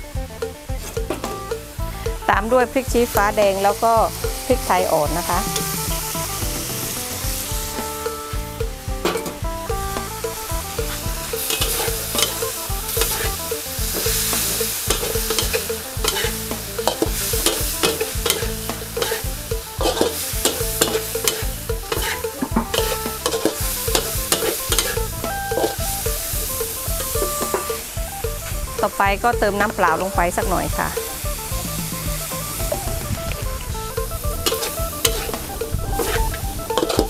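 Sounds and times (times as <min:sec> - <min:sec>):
food sizzling: 0:00.0 - 0:37.0
metal spatula scraping wok: 0:03.0 - 0:37.0.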